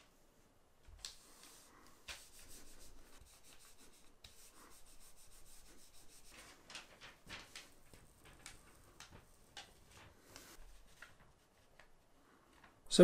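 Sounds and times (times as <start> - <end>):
hands rubbing paper swishing: 1.0 - 12.3.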